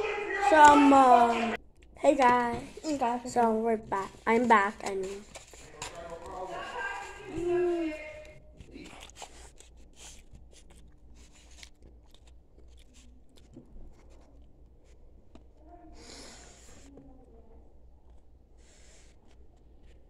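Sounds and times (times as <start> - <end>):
faint chewing with mouth clicks: 1.6 - 20.0.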